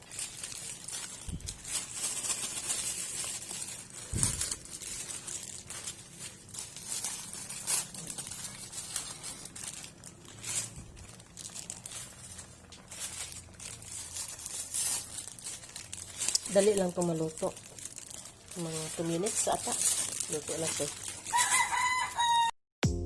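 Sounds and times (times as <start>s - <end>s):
plastic packets crinkling and tearing: 0.0s - 22.5s.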